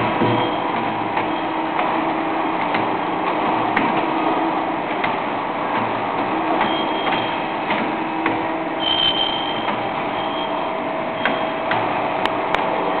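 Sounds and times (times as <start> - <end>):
bending machine humming: 0.0 - 13.0
high machine whine: 0.0 - 13.0
low steady machine tone: 0.0 - 13.0.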